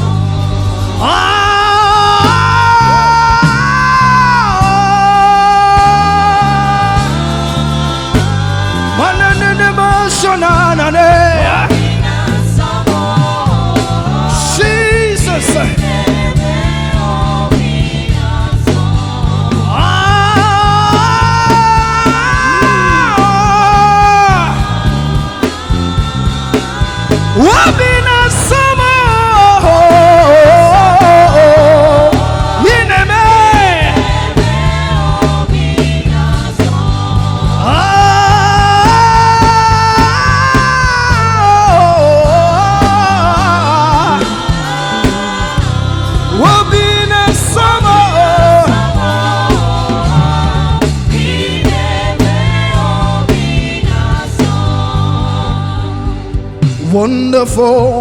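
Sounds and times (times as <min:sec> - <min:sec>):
band with bass and keyboard: 0:00.0 - 0:58.0.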